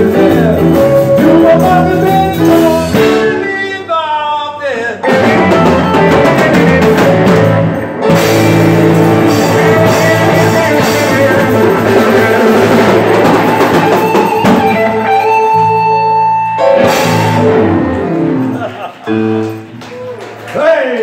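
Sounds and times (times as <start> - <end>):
live rock band playing: 0.0 - 3.9, 5.0 - 20.4.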